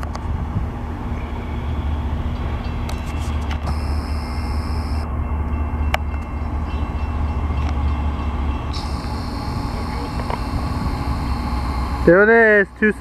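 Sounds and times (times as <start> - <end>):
diesel locomotive rumbling: 0.0 - 13.0.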